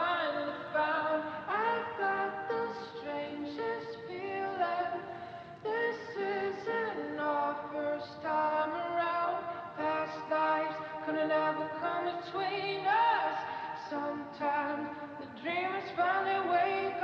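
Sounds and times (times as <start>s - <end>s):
choir-like synthesised singing music: 0.0s - 17.0s.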